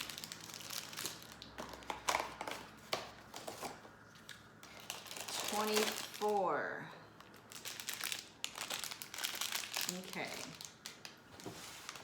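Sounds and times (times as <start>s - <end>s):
packaging crinkling: 0.0s - 6.5s, 7.1s - 12.0s.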